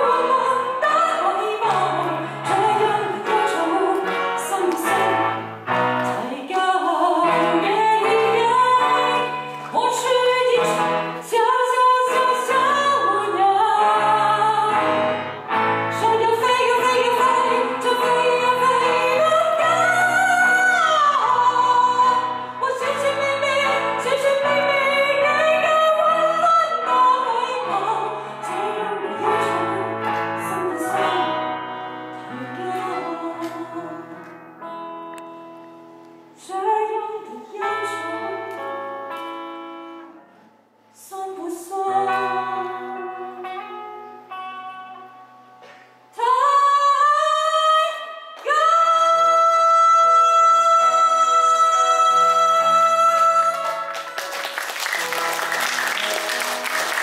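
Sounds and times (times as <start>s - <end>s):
woman singing pop ballad: 0.0s - 5.4s, 6.0s - 15.1s, 15.9s - 34.3s, 36.4s - 39.2s, 41.0s - 43.7s, 46.1s - 53.9s
acoustic guitar: 0.0s - 57.0s.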